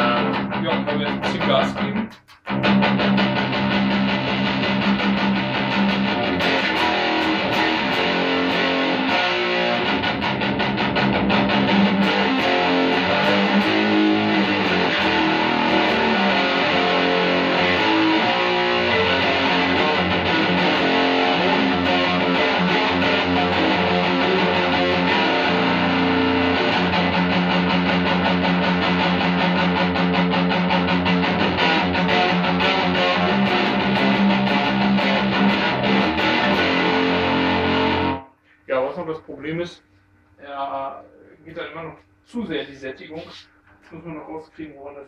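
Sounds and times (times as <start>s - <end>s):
distorted electric guitar chords: 0.0s - 38.4s.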